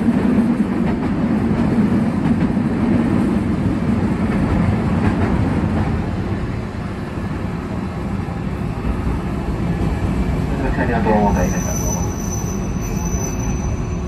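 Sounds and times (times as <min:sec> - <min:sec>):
tram motor and gear hum: 0:00.0 - 0:14.0.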